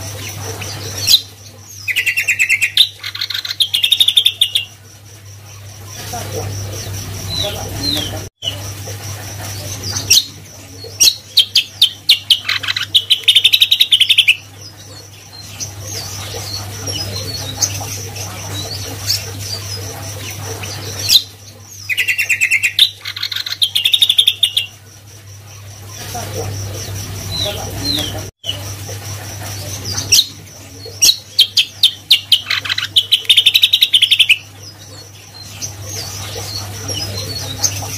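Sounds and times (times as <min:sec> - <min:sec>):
bird singing trills: 0:00.0 - 0:08.7, 0:09.6 - 0:28.7, 0:29.4 - 0:37.9.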